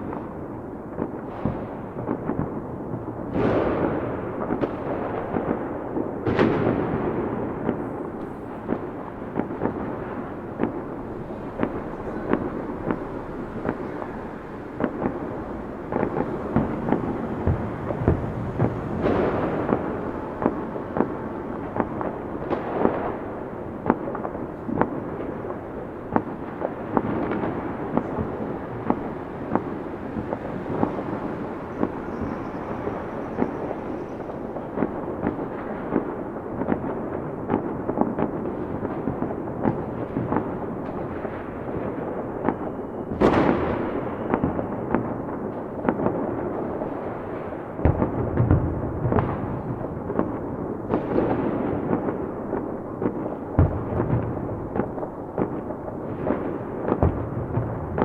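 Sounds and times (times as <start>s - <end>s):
distant fireworks rumble: 0.0s - 58.0s
fireworks bangs and crackles: 0.0s - 58.0s.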